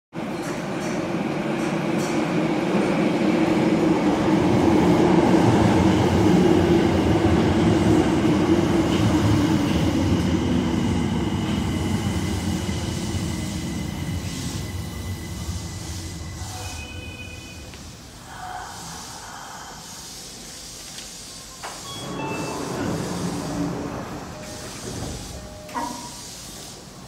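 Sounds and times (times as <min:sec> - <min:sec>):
subway train rumbling: 0:00.1 - 0:27.0
high-pitched train whine: 0:02.8 - 0:19.8, 0:21.6 - 0:26.4.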